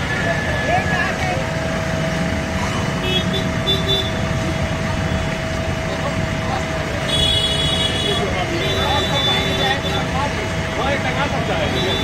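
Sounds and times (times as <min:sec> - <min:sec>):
crowd voices: 0:00.0 - 0:12.0
heavy vehicle engines: 0:00.0 - 0:12.0.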